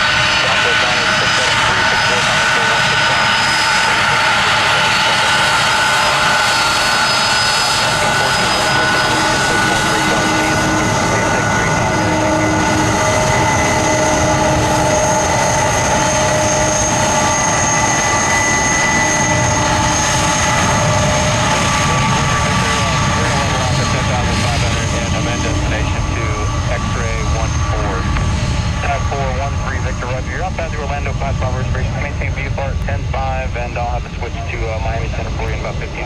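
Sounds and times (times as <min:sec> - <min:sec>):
jet engines roaring and whining: 0:00.0 - 0:36.0.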